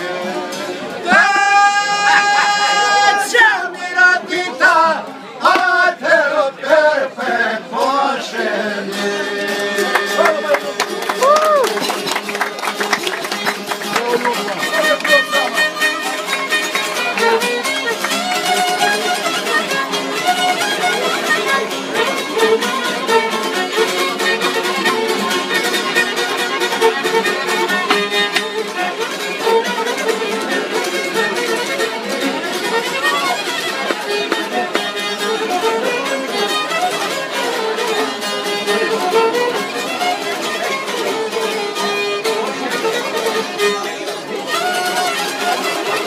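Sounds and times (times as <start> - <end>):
strummed lutes: 0.0 - 46.0
violin melody: 0.0 - 46.0.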